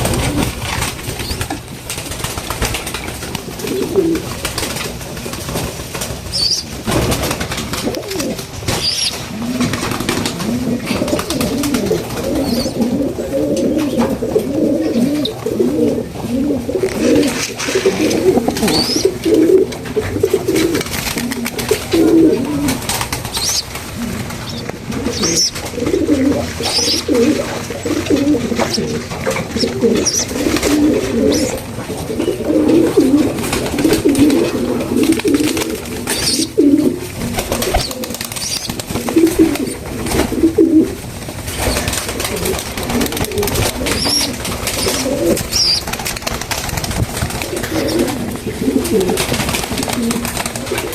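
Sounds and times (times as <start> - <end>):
pigeons cooing: 0.0 - 50.9.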